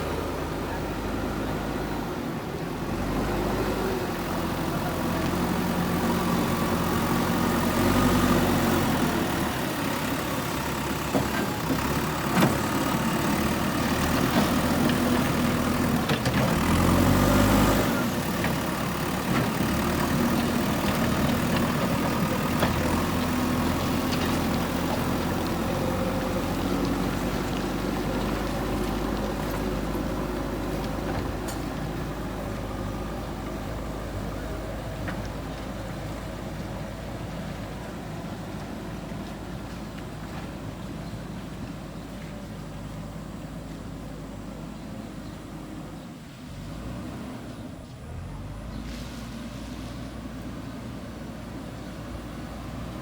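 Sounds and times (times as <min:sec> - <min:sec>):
diesel engine running under load: 0:00.0 - 0:53.0.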